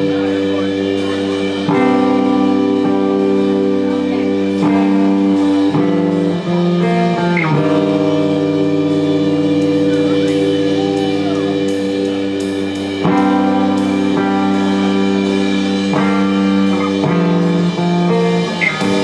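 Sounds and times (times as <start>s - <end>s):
drums: 0.0s - 19.0s
electric guitar chords: 0.0s - 19.0s
live blues-rock band: 0.0s - 19.0s.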